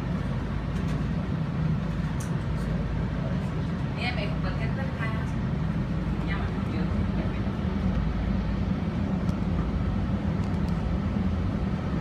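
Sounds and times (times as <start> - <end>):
train hum and rumble: 0.0 - 12.0.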